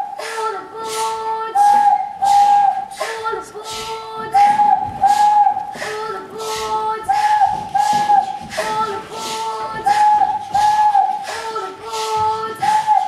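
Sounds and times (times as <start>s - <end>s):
imitated steam train chuffs: 0.0s - 13.0s
whistle-like chords: 0.0s - 13.0s.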